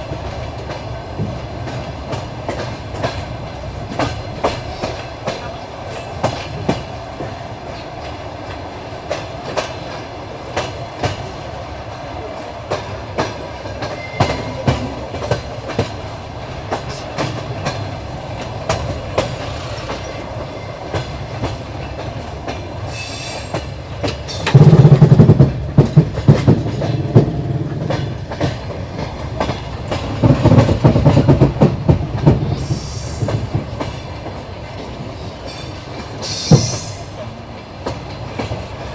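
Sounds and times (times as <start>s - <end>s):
train carriage rumble: 0.0s - 38.9s
train wheels clicking on rail joints: 0.0s - 38.9s.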